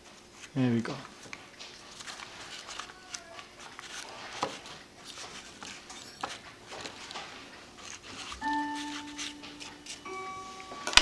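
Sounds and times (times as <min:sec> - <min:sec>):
paper rustling: 0:00.0 - 0:10.1.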